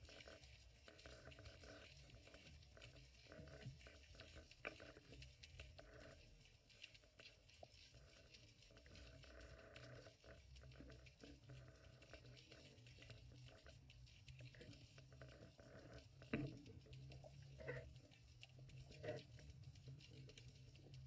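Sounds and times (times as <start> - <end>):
small clicks and crackles: 0.0 - 21.0
low underwater rumble: 0.6 - 21.0.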